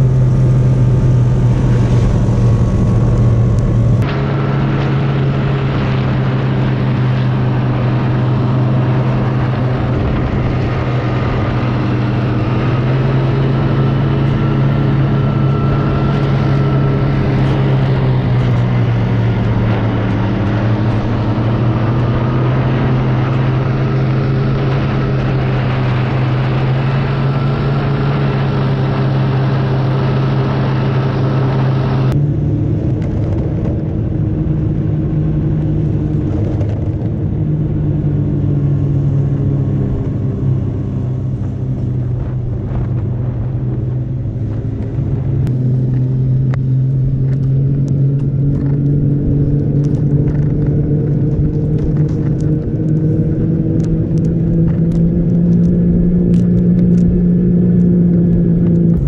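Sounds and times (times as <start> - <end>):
snowmobile engine running: 0.0 - 59.0
wind on microphone: 0.0 - 59.0.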